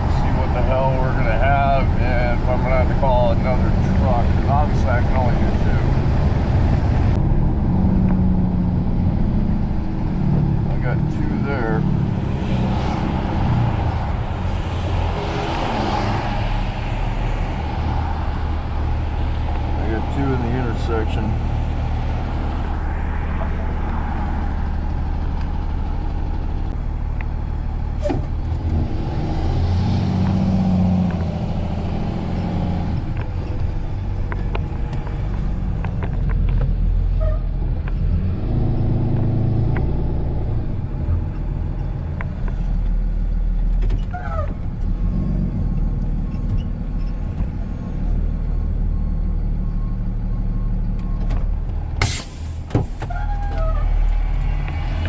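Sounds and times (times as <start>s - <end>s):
truck engine droning: 0.0s - 55.0s.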